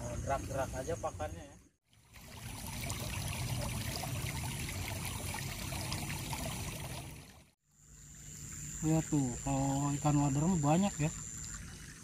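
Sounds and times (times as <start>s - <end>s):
shallow stream running: 1.8s - 12.0s.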